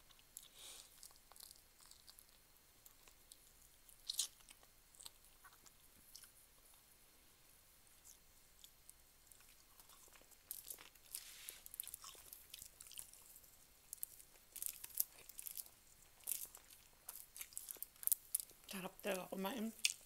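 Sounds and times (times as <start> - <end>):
person chewing with mouth clicks: 0.0 - 6.9, 8.0 - 18.7, 19.8 - 20.0.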